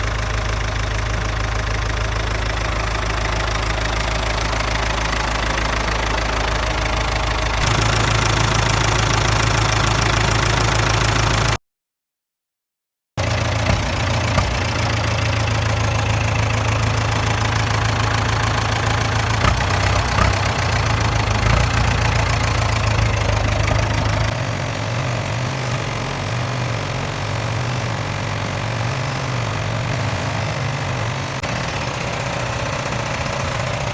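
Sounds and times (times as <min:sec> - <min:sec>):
tractor engine running: 0:00.0 - 0:11.6, 0:13.2 - 0:33.9.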